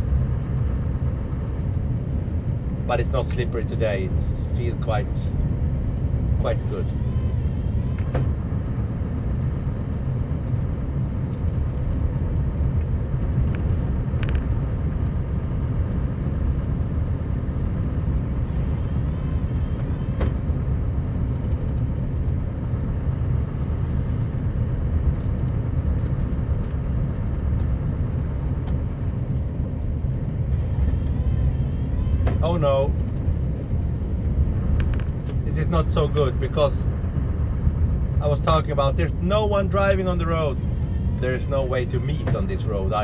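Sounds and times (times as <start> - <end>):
diesel truck engine rumble: 0.0 - 43.0.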